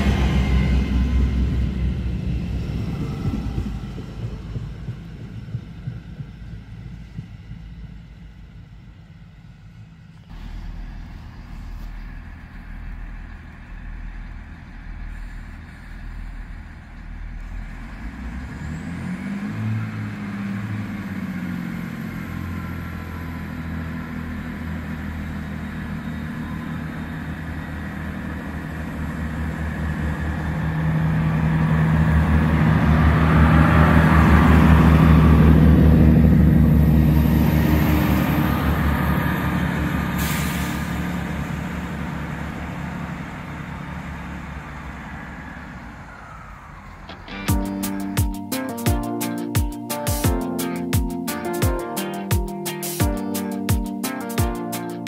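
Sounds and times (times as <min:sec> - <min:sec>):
diesel train engine passing: 0:00.0 - 0:55.0.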